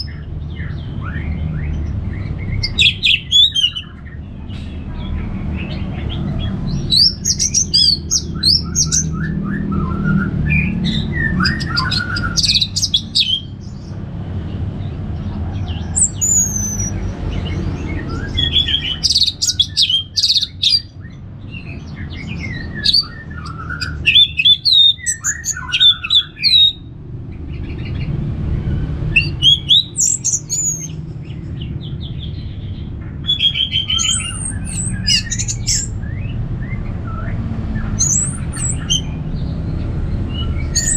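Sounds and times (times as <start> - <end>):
thrush singing whistles and chirps: 0.0 - 4.0, 5.6 - 14.0, 15.7 - 26.9, 29.1 - 39.2, 40.2 - 40.9.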